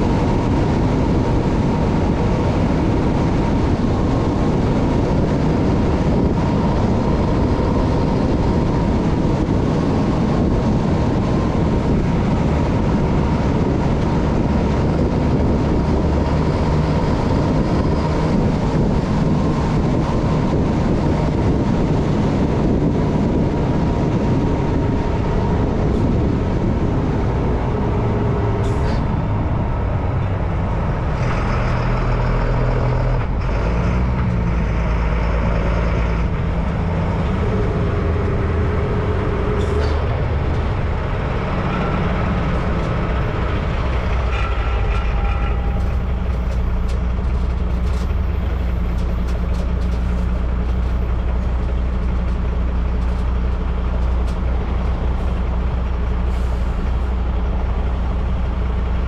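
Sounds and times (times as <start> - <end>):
road noise: 0.0 - 59.0
truck diesel engine running: 0.0 - 59.0.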